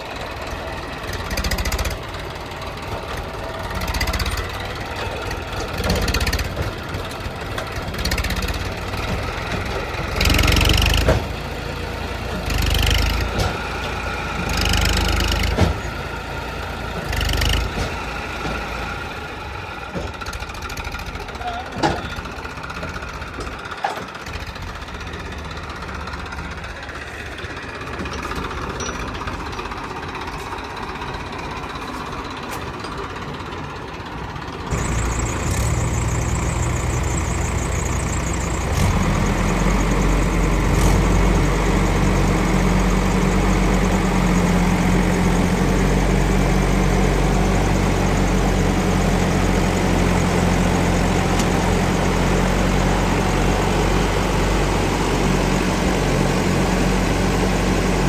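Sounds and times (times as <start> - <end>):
diesel engine running: 0.0 - 58.0
low engine note: 0.0 - 58.0.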